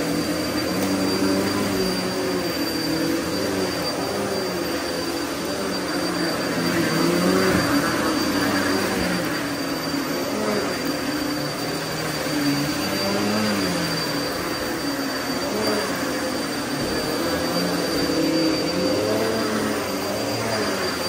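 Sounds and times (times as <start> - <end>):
steady high whine: 0.0 - 21.0
vacuum cleaner on carpet: 0.0 - 21.0.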